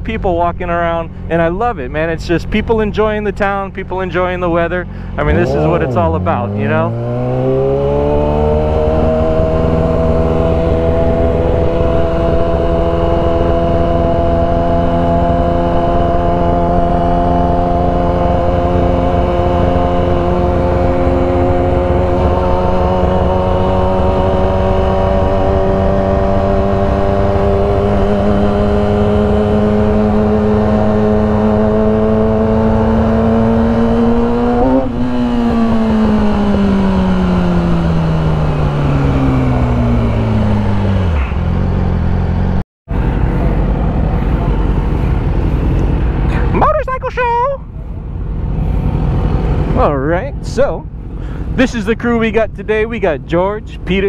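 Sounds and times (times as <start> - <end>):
constant low rush: 0.0 - 54.0
motorcycle engine accelerating: 0.0 - 54.0.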